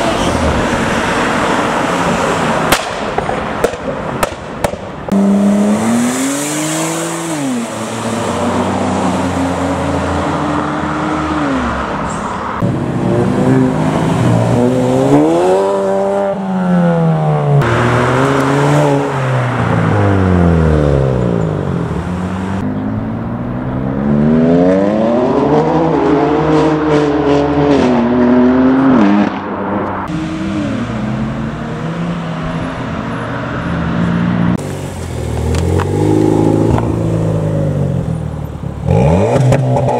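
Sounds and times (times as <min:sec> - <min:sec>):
car engines revving and passing: 0:00.0 - 0:39.9.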